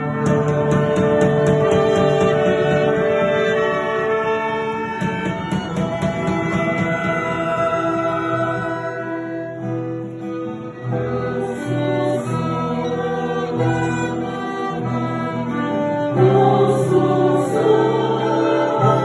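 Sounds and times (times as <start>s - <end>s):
church choir singing a hymn: 0.0s - 19.0s
instrumental accompaniment: 0.0s - 19.0s.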